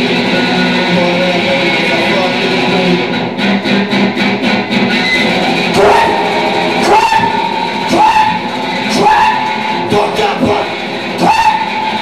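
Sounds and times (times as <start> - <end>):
electric guitar lead line: 1.2 - 12.0.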